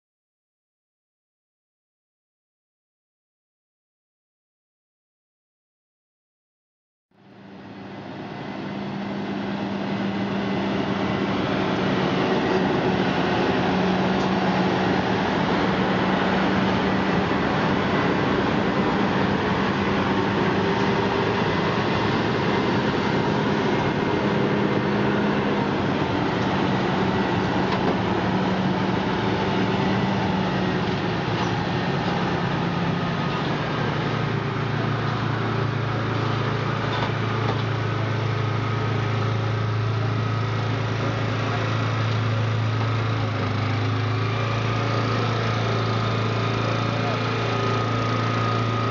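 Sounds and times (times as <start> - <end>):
truck diesel engine running: 7.2 - 48.9.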